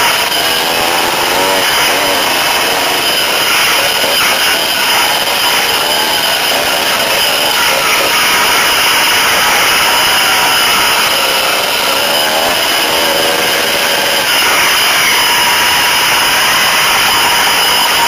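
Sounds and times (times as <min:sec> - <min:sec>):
dirt bike engine running hard: 0:00.0 - 0:18.0.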